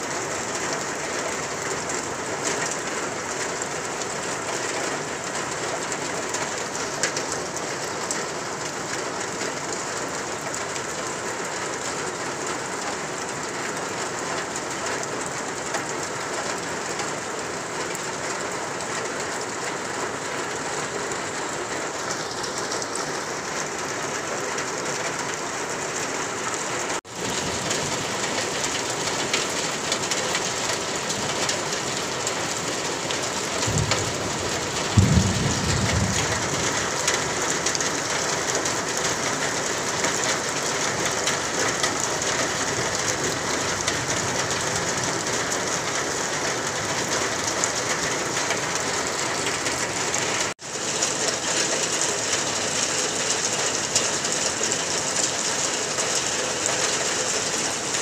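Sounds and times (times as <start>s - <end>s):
rain falling on trees: 0.0s - 58.0s.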